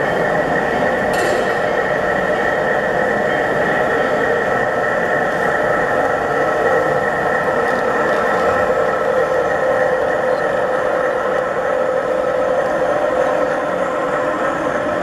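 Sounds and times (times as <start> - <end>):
model train mechanical hum: 0.0 - 15.0.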